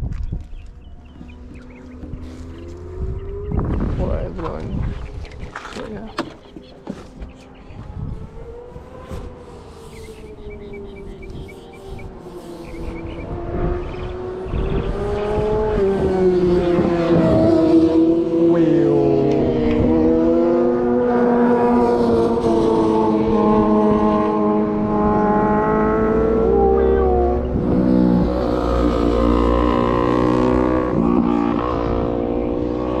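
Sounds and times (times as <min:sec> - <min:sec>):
car engine at high revs: 0:00.5 - 0:33.0.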